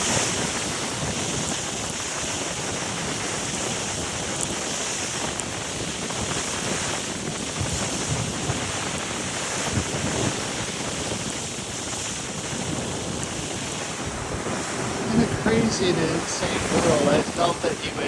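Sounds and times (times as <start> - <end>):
waves breaking in surf: 0.0 - 18.0
wind buffeting microphone: 0.0 - 18.0.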